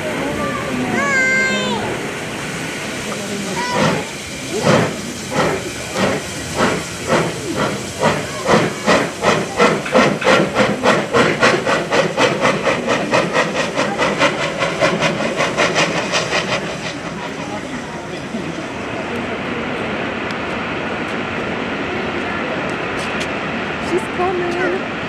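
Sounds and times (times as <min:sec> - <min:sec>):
steam locomotive exhaust chuffs: 0:01.3 - 0:21.9.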